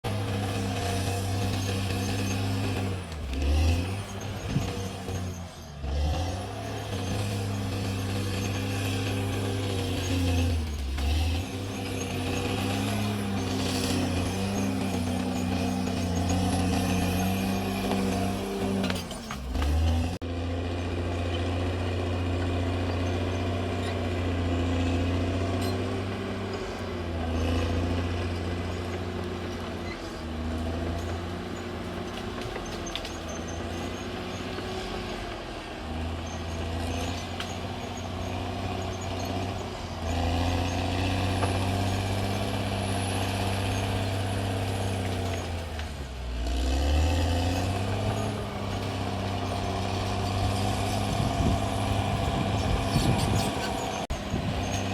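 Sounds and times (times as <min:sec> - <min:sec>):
bulldozer diesel engine under load: 0:00.0 - 0:54.9.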